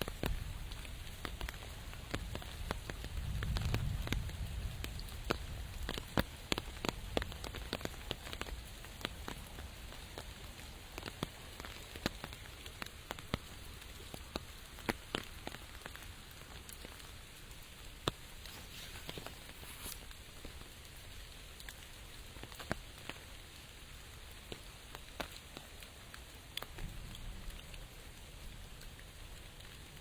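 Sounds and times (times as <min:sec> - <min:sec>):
raindrop hits: 0:00.0 - 0:30.0
steady rain: 0:00.0 - 0:30.0.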